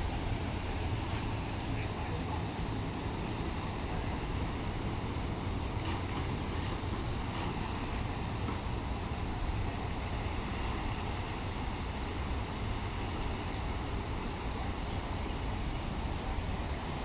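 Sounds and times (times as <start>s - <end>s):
distant city traffic rumble: 0.0s - 17.0s.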